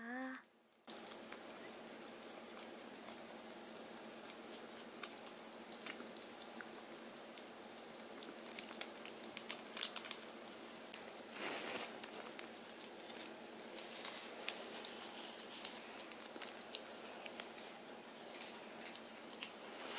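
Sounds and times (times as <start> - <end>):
faint steady hum: 0.0 - 19.9
ferret licking and chewing: 0.9 - 19.9.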